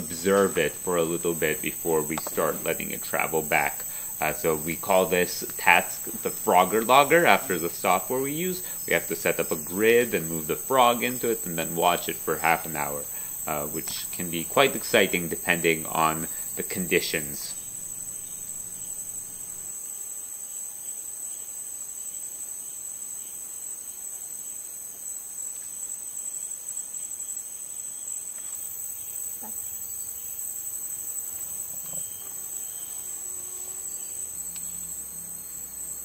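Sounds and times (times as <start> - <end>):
insect chorus shrill drone: 0.0 - 36.0.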